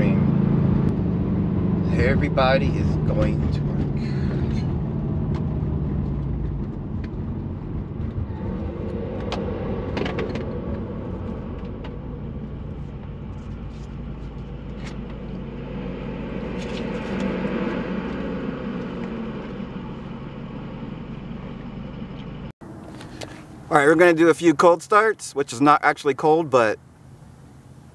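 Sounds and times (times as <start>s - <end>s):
car engine through exhaust: 0.0s - 24.1s
tyre and road noise: 0.0s - 27.9s.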